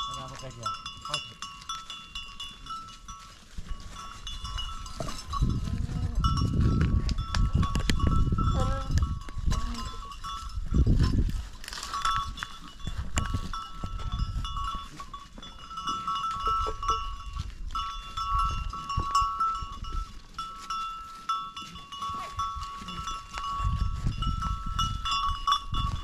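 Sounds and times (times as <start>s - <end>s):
animal bells clinking: 0.0s - 26.0s.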